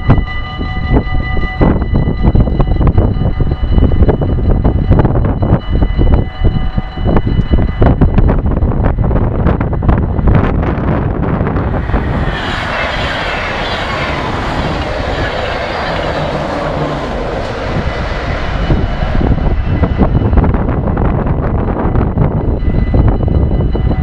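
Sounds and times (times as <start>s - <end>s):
train passing: 0.0s - 24.0s
wind buffeting microphone: 0.0s - 24.0s.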